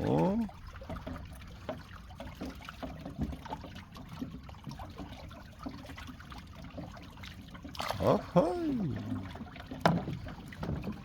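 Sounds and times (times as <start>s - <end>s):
fish splashing in water: 0.8s - 11.0s.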